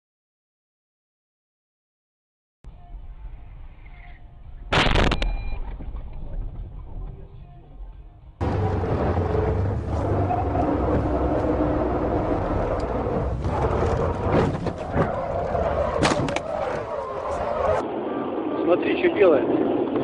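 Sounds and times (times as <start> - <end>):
vehicle and road noise: 2.7 - 20.0.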